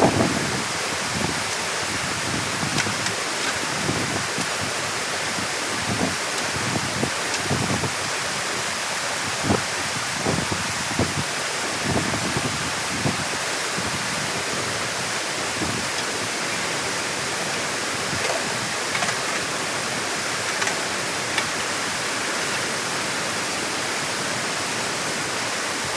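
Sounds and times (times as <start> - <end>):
water rushing through dam: 0.0 - 25.9.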